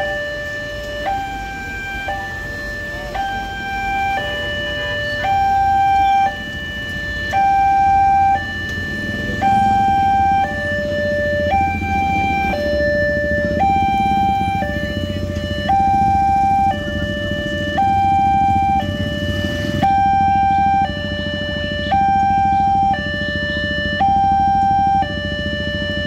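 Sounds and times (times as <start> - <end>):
motorcycle engines rumbling: 0.0 - 26.0
two-tone level crossing alarm: 0.0 - 26.0.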